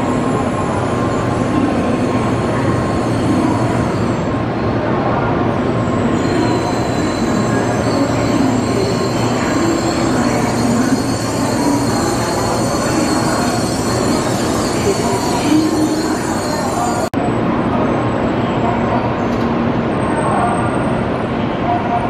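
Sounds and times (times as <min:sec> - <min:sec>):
train braking to a stop: 0:00.0 - 0:04.8, 0:05.5 - 0:21.0.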